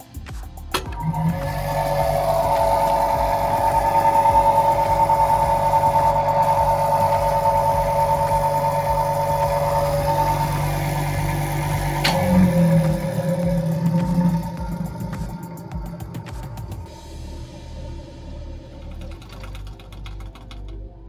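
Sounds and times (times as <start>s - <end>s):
vibrating sieve humming: 0.0s - 20.8s.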